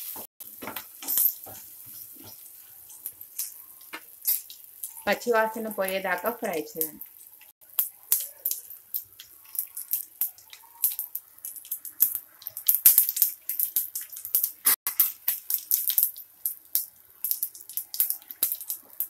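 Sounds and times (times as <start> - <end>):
hot oil sizzling and popping: 0.0 - 19.0.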